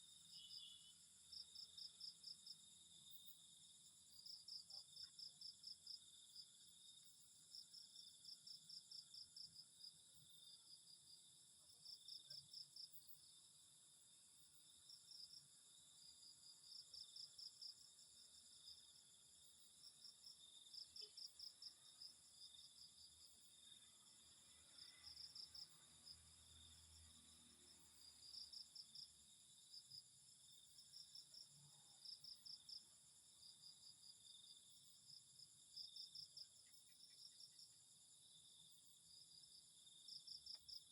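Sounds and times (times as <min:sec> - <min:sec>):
crickets chirping in trills: 0:00.0 - 0:40.9.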